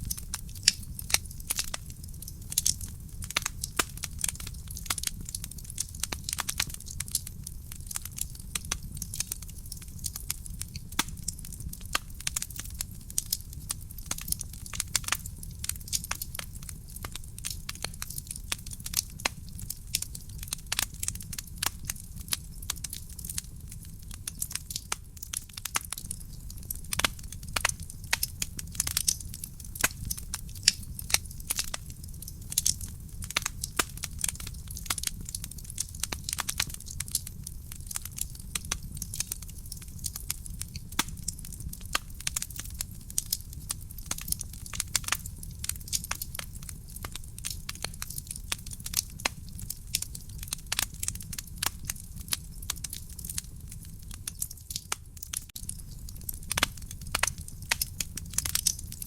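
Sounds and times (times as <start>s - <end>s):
burning logs crackling and popping: 0.0s - 59.0s
low rumble of flames: 0.0s - 59.0s.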